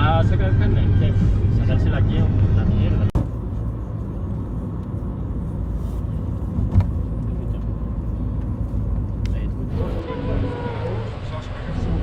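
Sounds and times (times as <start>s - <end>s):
car rumbling on road: 0.0s - 12.0s.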